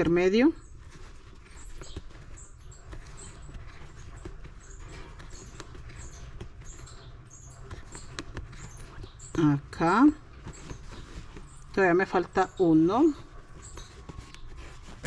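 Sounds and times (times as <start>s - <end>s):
scratchy thread rustling: 0.0s - 15.0s.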